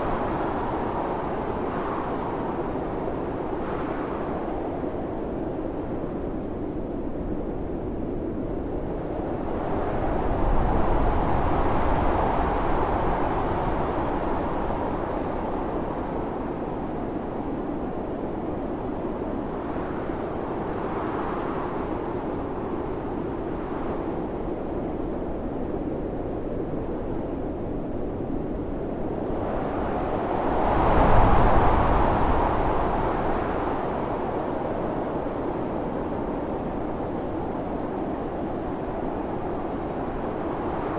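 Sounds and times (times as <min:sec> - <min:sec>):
blizzard wind blowing: 0:00.0 - 0:40.9.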